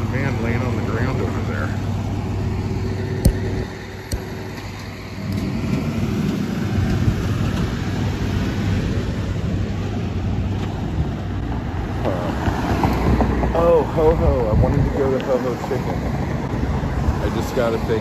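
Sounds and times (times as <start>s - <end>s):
cars driving past: 0.0s - 18.0s
low engine hum: 0.0s - 18.0s.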